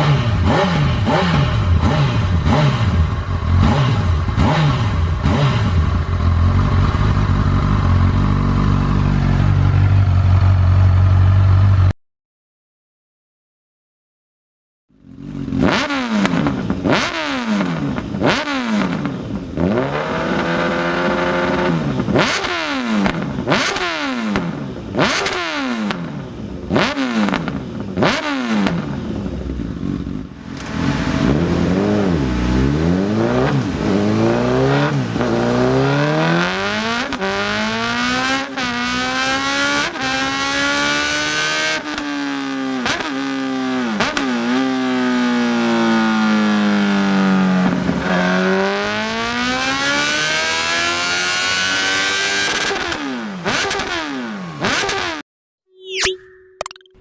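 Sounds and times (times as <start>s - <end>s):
motorcycle engine revving: 0.0s - 12.0s, 14.9s - 55.2s.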